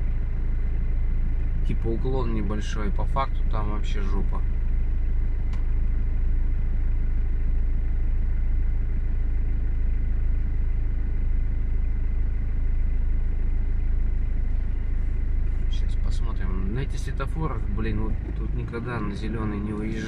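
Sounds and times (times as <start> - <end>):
diesel engine rumble: 0.0 - 20.0
faint high-pitched whine: 0.0 - 20.0.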